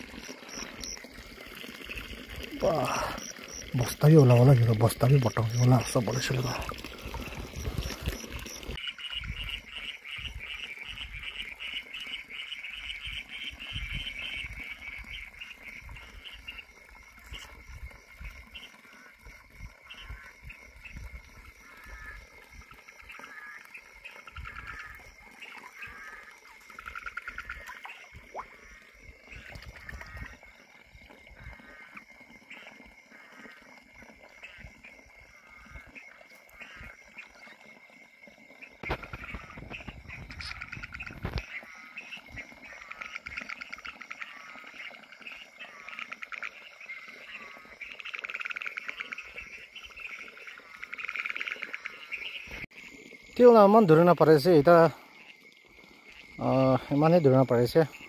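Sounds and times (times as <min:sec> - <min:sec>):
frogs pulsed calls: 0:00.0 - 0:58.0.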